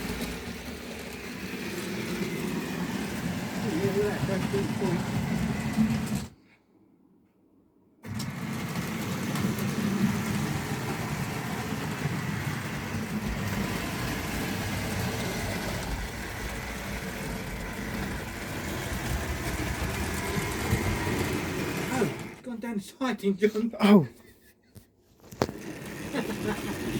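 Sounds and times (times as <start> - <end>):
model train motor whirring: 0.0 - 6.3, 8.0 - 22.4, 25.3 - 26.9
wheels rattling on rails: 0.0 - 6.3, 8.0 - 22.4, 25.4 - 26.9.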